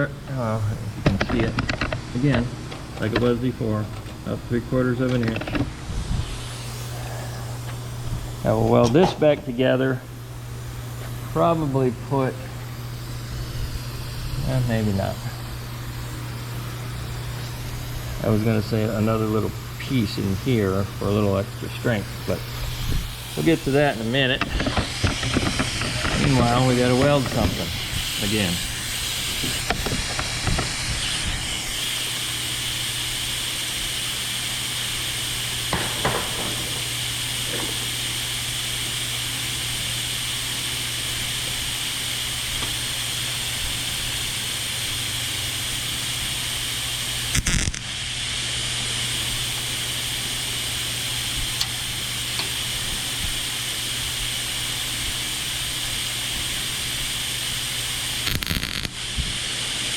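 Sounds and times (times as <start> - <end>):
low electrical hum: 0.0 - 59.9
welder sizzling hiss: 2.5 - 59.9.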